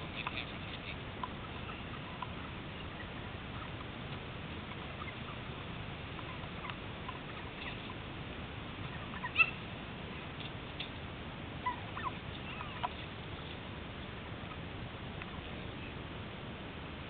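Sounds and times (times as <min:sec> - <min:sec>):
turkeys clucking softly: 0:00.0 - 0:16.3.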